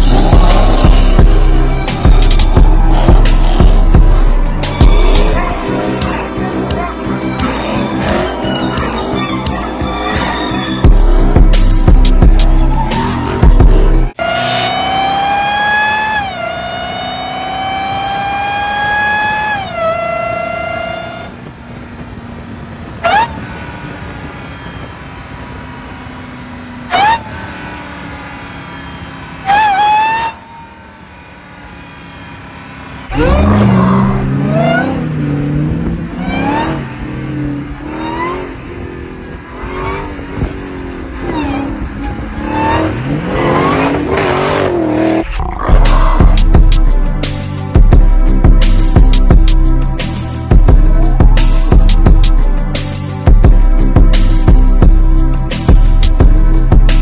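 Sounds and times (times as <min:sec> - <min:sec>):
car engine accelerating hard: 0:00.0 - 0:57.0
engine blips: 0:00.0 - 0:57.0
supercharger whine: 0:00.0 - 0:57.0.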